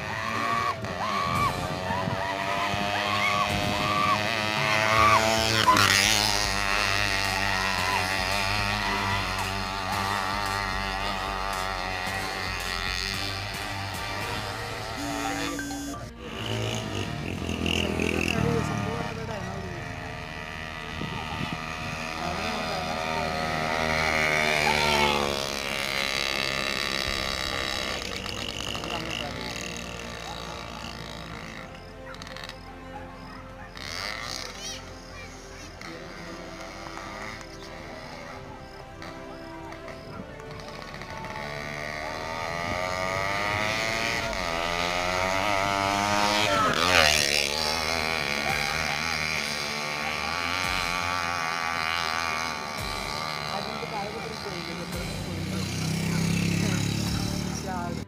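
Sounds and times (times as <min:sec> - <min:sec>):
motorcycle engines at speed: 0:00.0 - 0:58.0.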